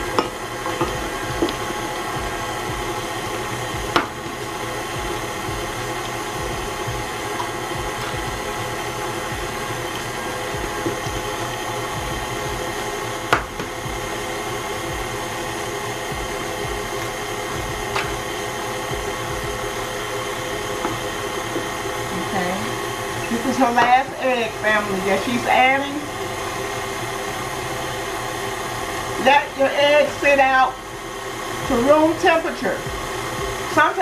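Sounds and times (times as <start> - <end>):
stand mixer running: 0.0 - 34.0.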